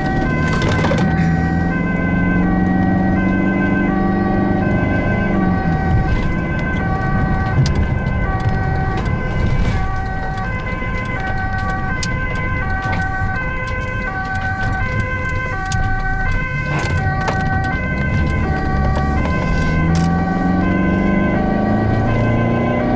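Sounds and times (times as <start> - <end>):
ambulance engine: 0.0 - 22.9
road noise: 0.0 - 22.9
two-tone ambulance siren: 0.0 - 22.9.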